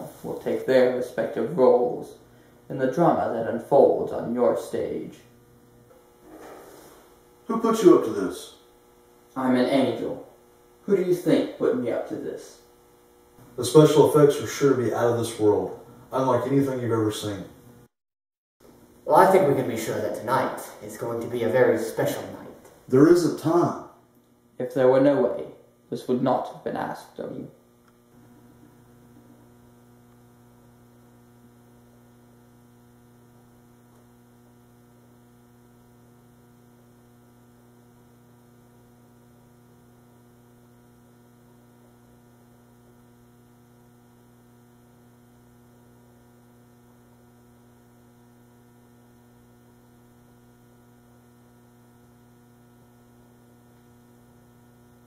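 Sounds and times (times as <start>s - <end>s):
electrical mains hum: 0.0s - 18.0s, 18.6s - 55.0s.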